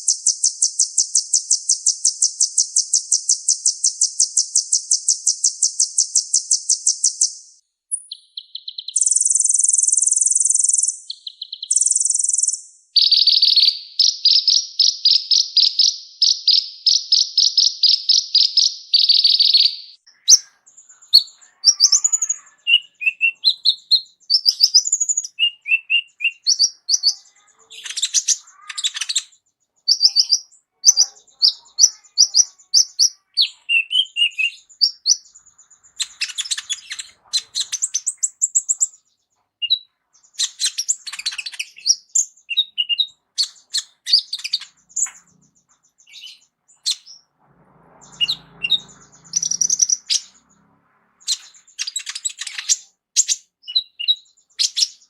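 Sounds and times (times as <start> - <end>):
bird singing high-pitched song: 0.0 - 55.0.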